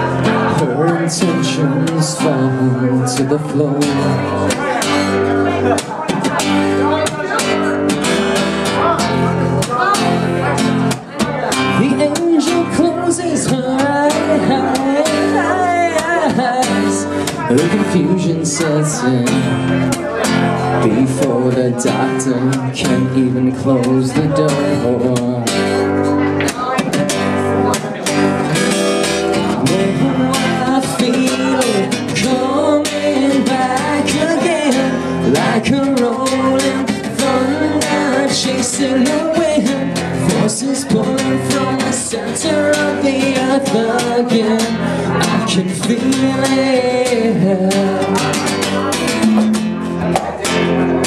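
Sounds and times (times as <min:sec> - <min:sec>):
man singing: 0:00.0 - 0:51.0
strummed acoustic guitar: 0:00.0 - 0:51.0.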